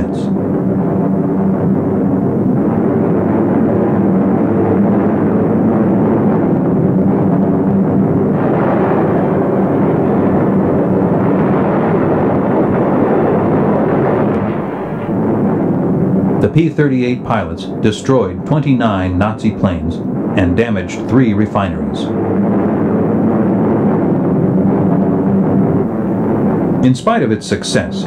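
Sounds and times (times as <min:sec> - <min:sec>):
piston aircraft engines droning: 0:00.0 - 0:28.0.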